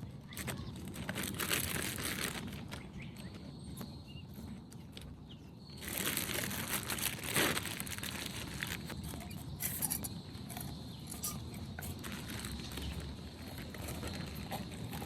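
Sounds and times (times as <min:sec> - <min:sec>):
crinkling and rustling: 0:00.0 - 0:15.0.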